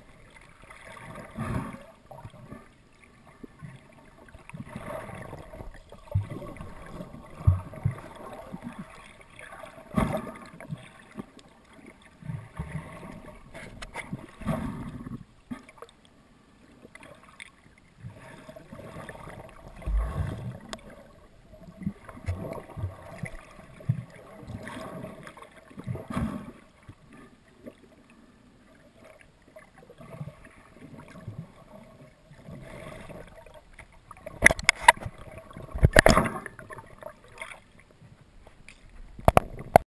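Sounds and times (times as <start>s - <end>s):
muffled water sloshing: 0.0s - 16.2s, 16.8s - 39.8s.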